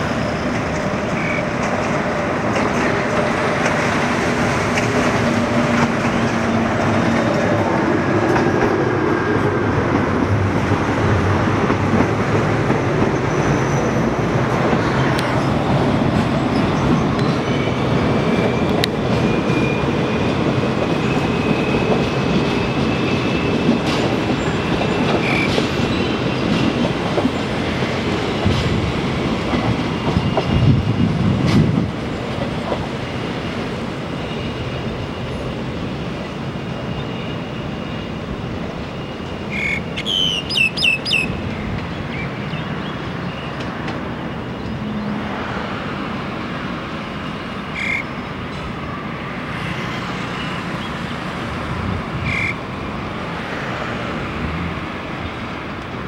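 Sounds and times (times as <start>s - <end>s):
train wheels rumbling and clacking: 0.0s - 56.0s.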